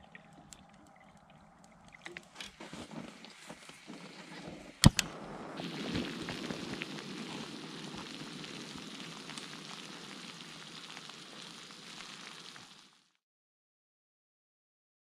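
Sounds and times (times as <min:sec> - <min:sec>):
water boiling and bubbling: 0:00.0 - 0:13.2.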